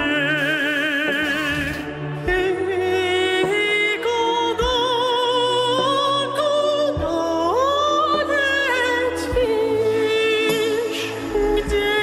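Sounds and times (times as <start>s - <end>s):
man singing pop ballad: 0.0s - 12.0s.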